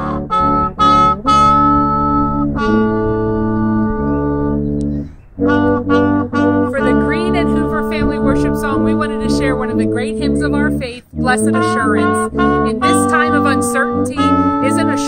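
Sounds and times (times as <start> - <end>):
instrumental music chords: 0.0 - 15.0.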